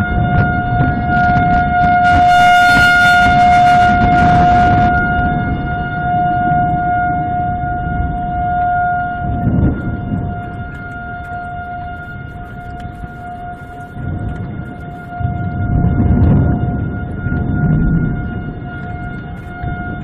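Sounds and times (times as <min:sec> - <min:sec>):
low rumbling noise: 0:00.0 - 0:20.0
tornado warning siren: 0:00.0 - 0:20.0.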